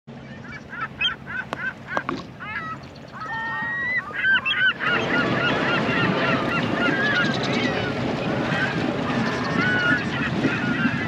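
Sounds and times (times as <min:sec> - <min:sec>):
birds chirping chorus: 0:00.1 - 0:11.0.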